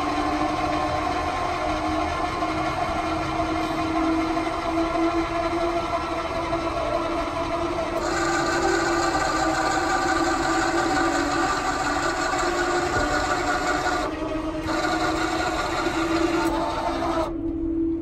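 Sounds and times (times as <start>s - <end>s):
electric motor whine: 0.0s - 17.4s.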